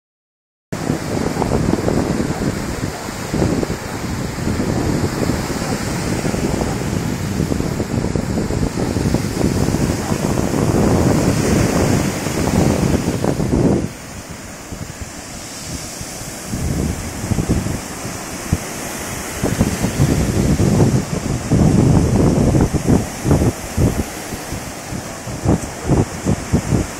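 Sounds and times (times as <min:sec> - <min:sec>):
surf breaking on beach: 0:00.8 - 0:26.9
wind buffeting microphone: 0:00.8 - 0:26.9.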